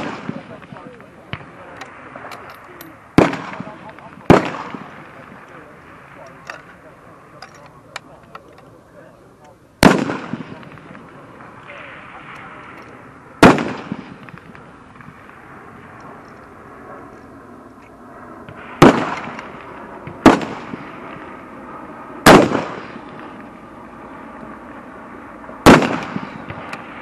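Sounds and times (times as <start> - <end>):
rifle shots with echo: 0.0 - 6.6, 9.8 - 27.0.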